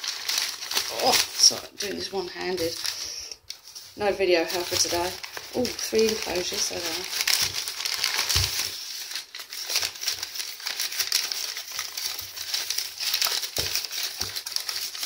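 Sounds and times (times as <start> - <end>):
newspaper rustling and crinkling: 0.0 - 15.0.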